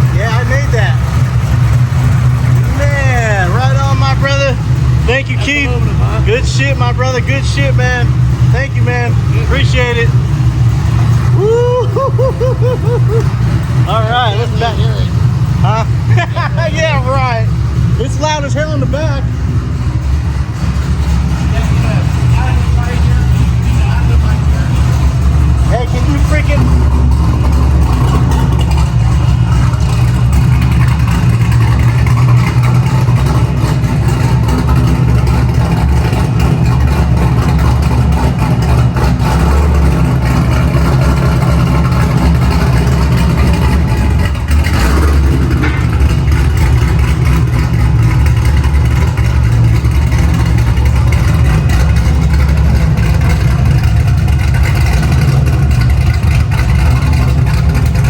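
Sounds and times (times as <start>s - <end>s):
car exhaust drone: 0.0s - 58.0s.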